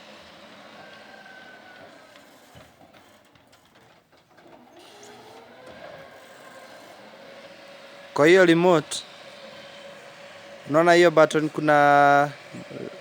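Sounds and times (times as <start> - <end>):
gate motor humming and whining: 0.0 - 13.0.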